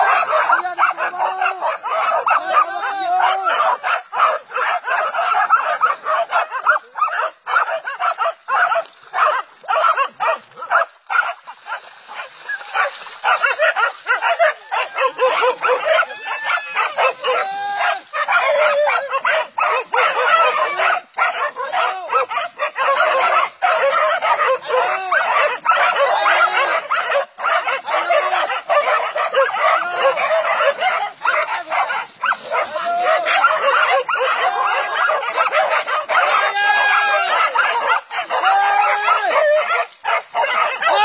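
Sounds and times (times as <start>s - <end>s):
dogs barking and yelping: 0.0s - 41.0s.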